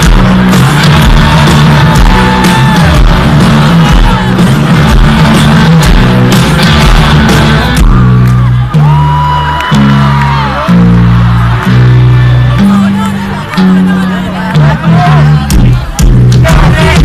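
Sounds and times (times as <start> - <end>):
steady drum beat: 0.0 - 12.8, 14.6 - 17.0
bass guitar: 0.0 - 17.0
electric guitar: 0.0 - 17.0
rock band playing live: 0.0 - 17.0.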